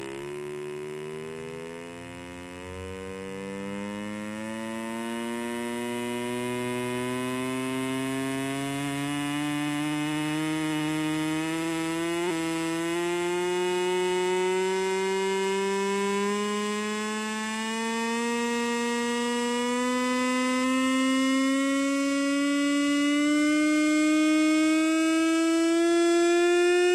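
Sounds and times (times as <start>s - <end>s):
buzzing tone rising in pitch: 0.0s - 26.9s.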